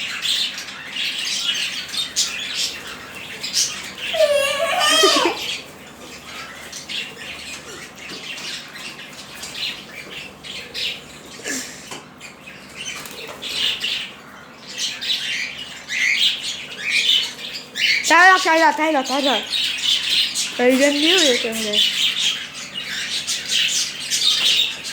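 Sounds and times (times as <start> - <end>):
lovebirds chirping and squeaking: 0.2 - 24.9.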